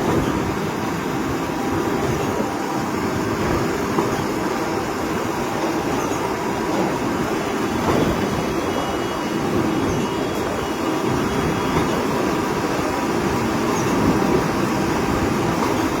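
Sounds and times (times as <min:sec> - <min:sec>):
concrete pump rumbling: 0:00.0 - 0:16.0.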